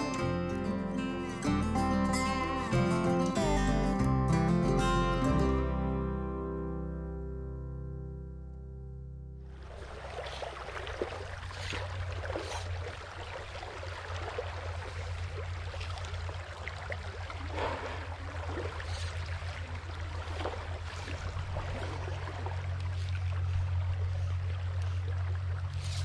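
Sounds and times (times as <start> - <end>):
stream babbling: 0.0 - 6.0, 9.4 - 26.0.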